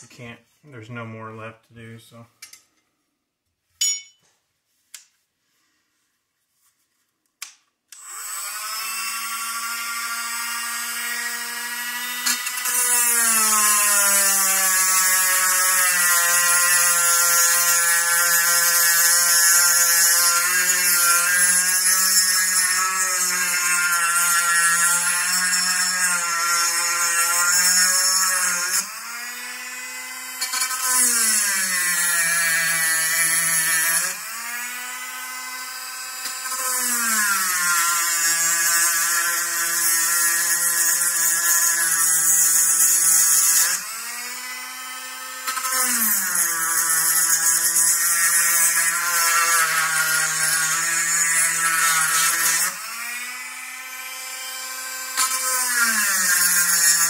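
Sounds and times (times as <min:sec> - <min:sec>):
rotary tool grinding metal: 0:08.0 - 0:57.0.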